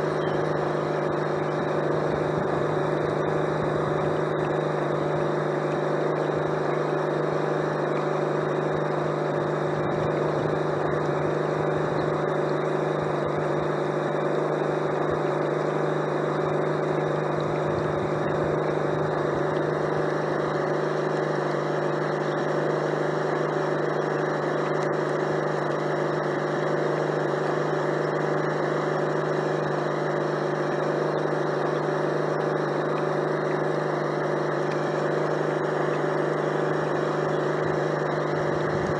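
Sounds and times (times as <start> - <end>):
model boat engine drone: 0.0 - 38.9.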